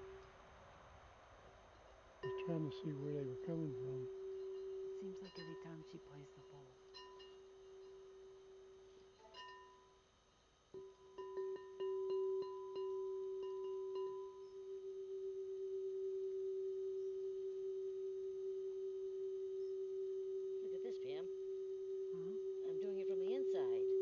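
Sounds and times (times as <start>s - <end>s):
singing bowl ringing: 1.8s - 10.1s, 10.8s - 24.0s.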